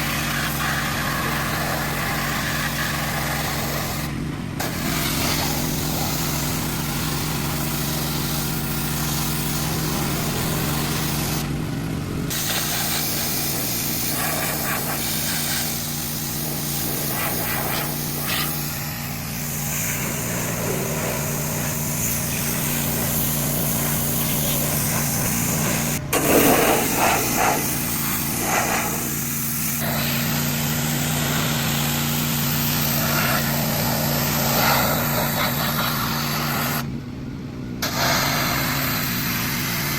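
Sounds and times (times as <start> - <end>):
water spraying hiss: 0.0 - 11.6, 12.3 - 36.9, 37.8 - 39.9
small engine running: 0.0 - 39.9.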